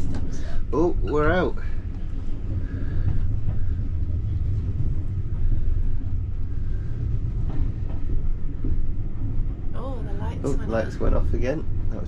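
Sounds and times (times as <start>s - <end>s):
railway carriage rumbling: 0.0s - 12.0s.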